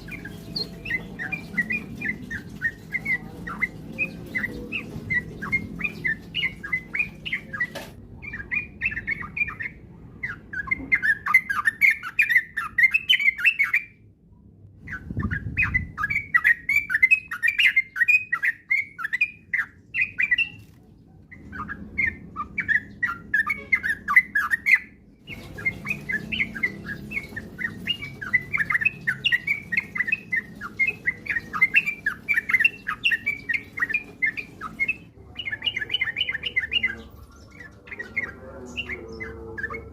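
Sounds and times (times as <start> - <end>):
birds singing bubbly chatter: 0.0 - 14.0, 14.8 - 39.9.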